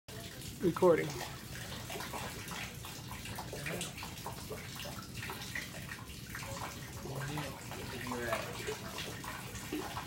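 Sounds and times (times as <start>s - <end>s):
water rushing: 0.1s - 10.0s.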